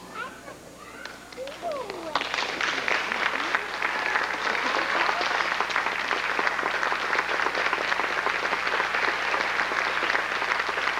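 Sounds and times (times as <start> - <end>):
audience applauding: 1.3 - 10.9.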